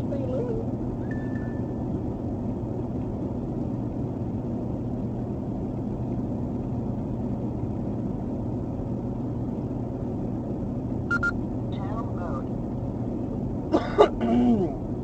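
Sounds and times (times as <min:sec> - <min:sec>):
low hum of tires and drivetrain: 0:00.0 - 0:15.0.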